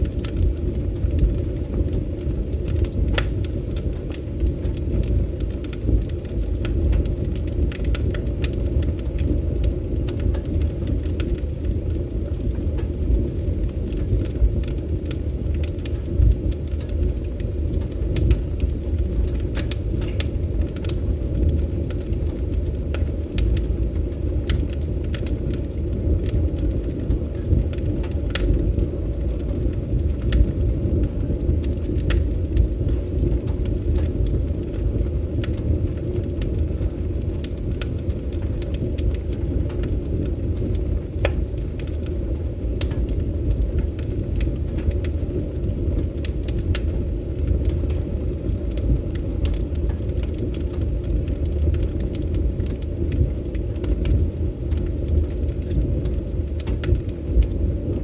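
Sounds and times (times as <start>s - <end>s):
low rumble of burning: 0.0s - 58.0s
wood fire crackling and popping: 0.0s - 58.0s.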